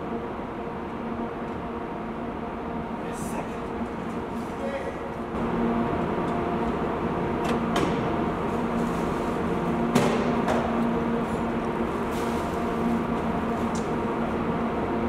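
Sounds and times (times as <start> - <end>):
steady hum with fixed tones: 0.0 - 15.0.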